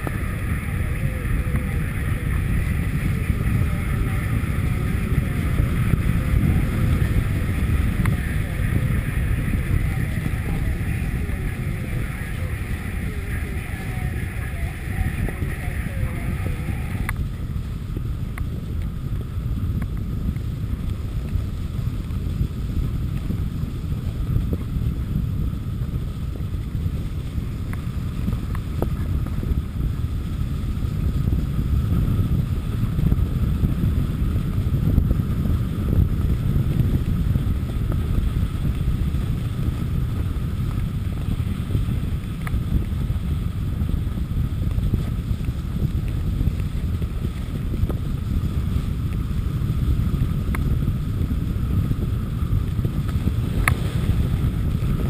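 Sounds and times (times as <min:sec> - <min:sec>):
skis sliding over packed snow: 0:00.0 - 0:55.0
wind rumbling on microphone: 0:00.0 - 0:55.0.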